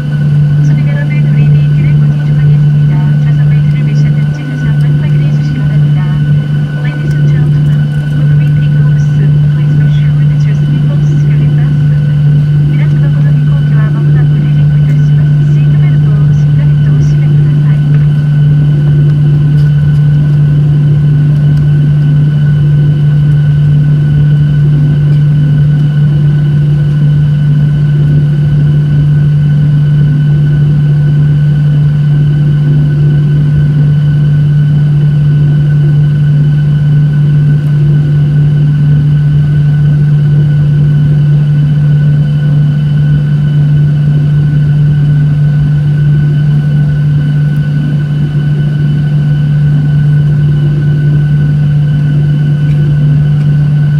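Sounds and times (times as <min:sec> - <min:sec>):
airplane cabin engine drone: 0:00.0 - 0:53.9.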